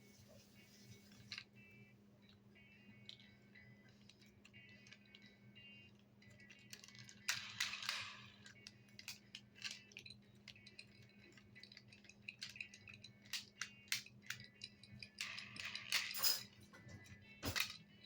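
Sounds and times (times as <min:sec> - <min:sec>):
faint steady hum: 0:00.0 - 0:18.0
toys clicking and rattling: 0:02.2 - 0:18.0.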